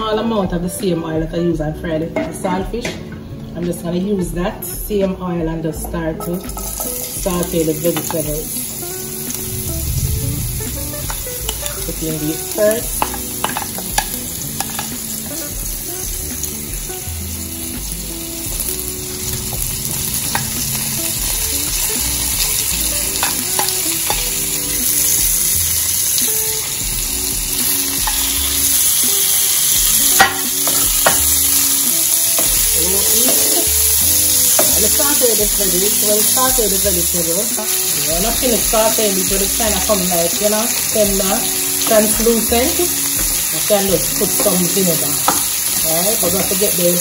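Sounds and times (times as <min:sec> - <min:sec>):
vegetables sizzling in hot oil: 0:05.8 - 0:47.0.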